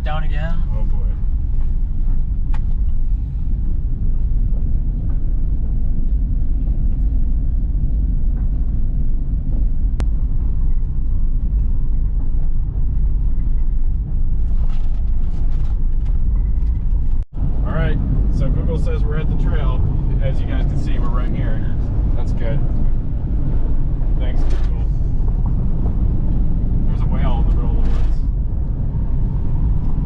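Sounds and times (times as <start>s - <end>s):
low rumble of engine and tyres: 0.0s - 30.0s.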